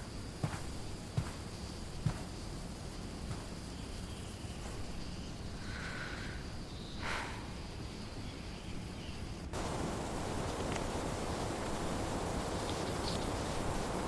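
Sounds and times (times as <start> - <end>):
outdoor rustling hiss: 0.0 - 14.0.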